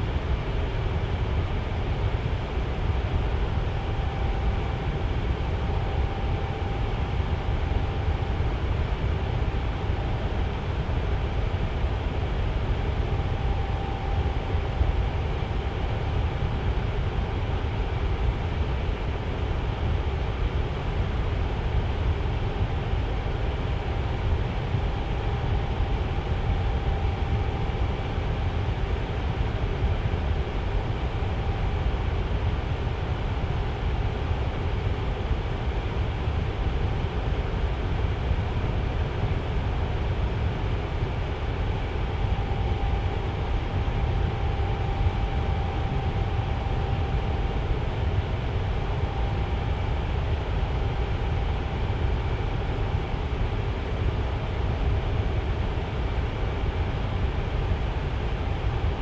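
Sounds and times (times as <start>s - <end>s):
faint motor hum: 0.0s - 59.0s
faint thin whine: 0.0s - 59.0s
fan air rushing: 0.0s - 59.0s.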